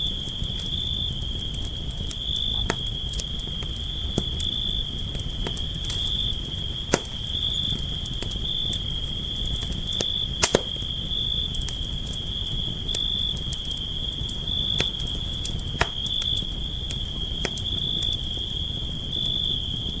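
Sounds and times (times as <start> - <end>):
campfire crackling: 0.0 - 20.0
cricket trill: 0.0 - 20.0
sharp pops of fire: 0.0 - 20.0.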